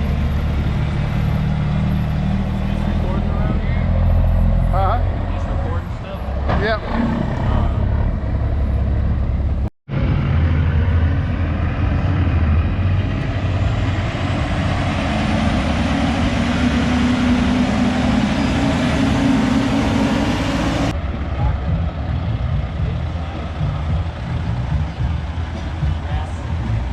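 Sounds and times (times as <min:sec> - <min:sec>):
truck engine running: 0:00.0 - 0:26.9.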